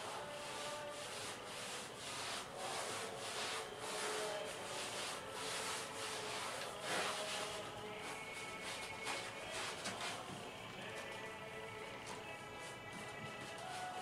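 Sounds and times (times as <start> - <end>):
sponge scrubbing tile: 0.0 - 10.6, 11.8 - 14.0.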